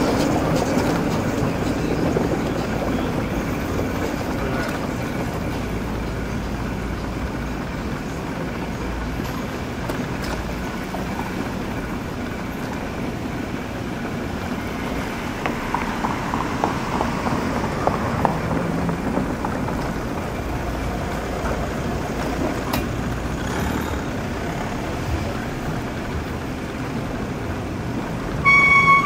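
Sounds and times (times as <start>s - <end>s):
street traffic: 0.0s - 29.0s
tricycle riding noise: 0.0s - 29.0s.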